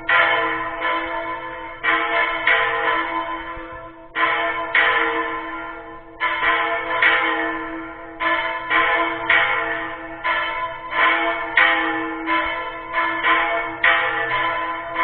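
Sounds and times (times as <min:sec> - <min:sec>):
small church bell struck: 0:00.0 - 0:15.0.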